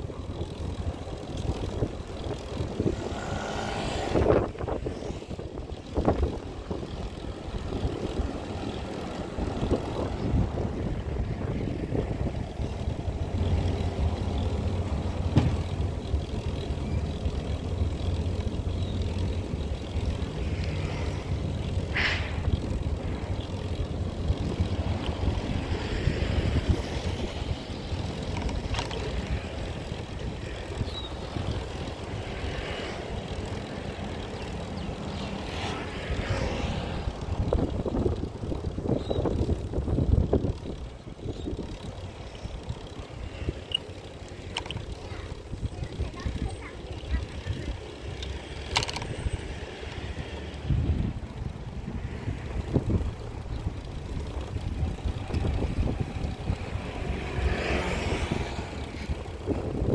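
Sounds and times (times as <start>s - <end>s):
engine droning: 0.0s - 59.9s.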